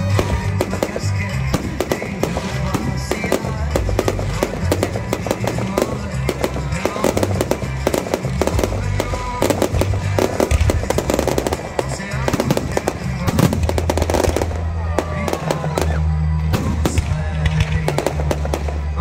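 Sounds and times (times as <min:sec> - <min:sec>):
fireworks banging and crackling: 0:00.0 - 0:19.0
music with moving bass line: 0:00.0 - 0:19.0.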